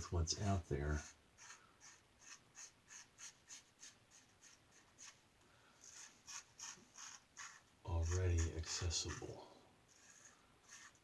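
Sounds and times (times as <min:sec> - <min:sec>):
razor scraping whiskers: 0:00.9 - 0:05.2, 0:05.8 - 0:11.0.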